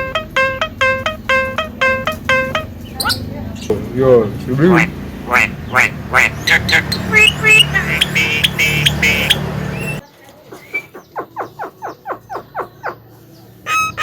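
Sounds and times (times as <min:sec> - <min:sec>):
bird chattering calls: 0:00.0 - 0:03.7, 0:04.6 - 0:14.0.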